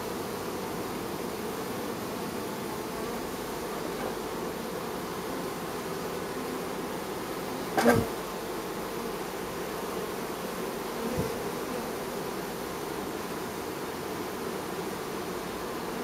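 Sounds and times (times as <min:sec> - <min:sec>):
bee buzzing past: 0:00.0 - 0:16.0
bees humming at hive: 0:00.0 - 0:16.0.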